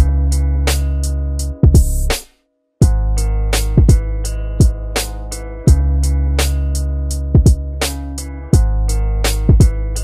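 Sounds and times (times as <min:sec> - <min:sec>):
music with drums and deep bass: 0:00.0 - 0:10.0.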